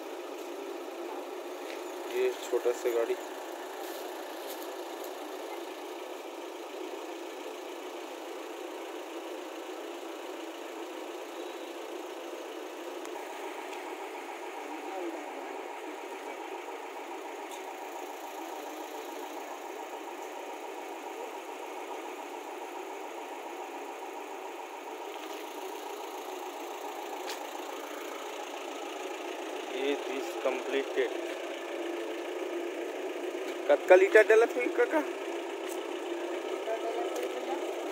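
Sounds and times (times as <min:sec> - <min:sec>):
engine running: 0:00.0 - 0:37.9.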